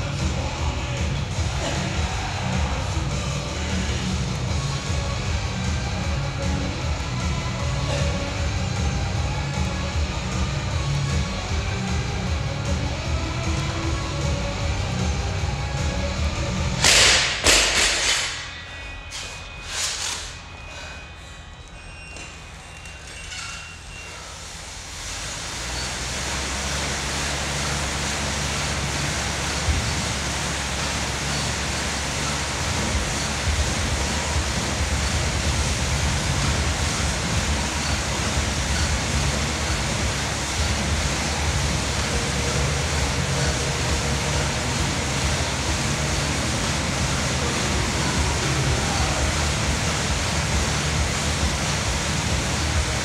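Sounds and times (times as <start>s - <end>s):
air bike fan whooshing: 0.0s - 21.8s, 22.4s - 53.0s
low hum: 0.0s - 53.0s.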